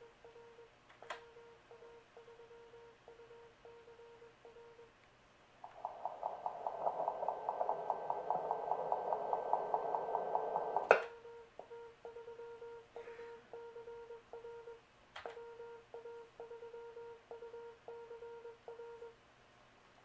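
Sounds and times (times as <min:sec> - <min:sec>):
morse code tones: 0:00.0 - 0:04.9, 0:06.0 - 0:19.2.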